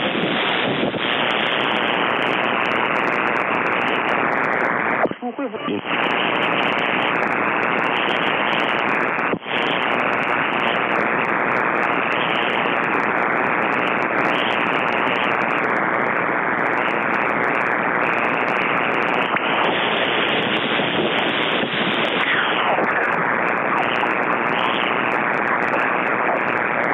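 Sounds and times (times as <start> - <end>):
crackling power-line noise on radio: 0.0 - 26.9.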